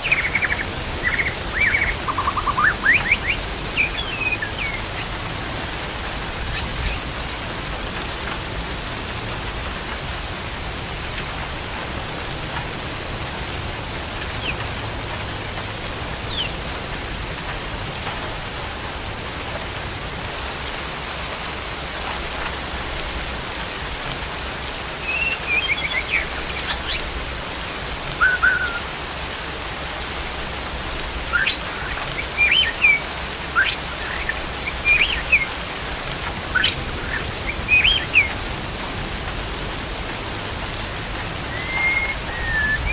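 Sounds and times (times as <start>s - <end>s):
songbirds chirping: 0.0s - 42.9s
steady hiss: 0.0s - 42.9s.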